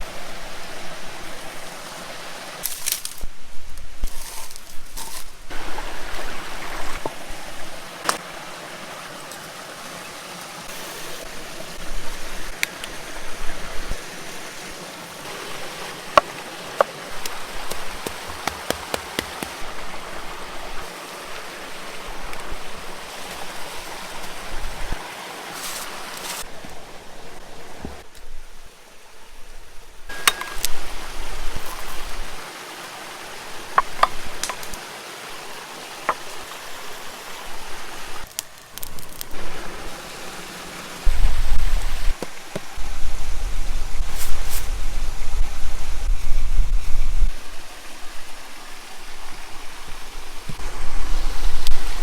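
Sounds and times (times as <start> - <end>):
stream flowing: 0.0 - 3.3, 4.0 - 52.0.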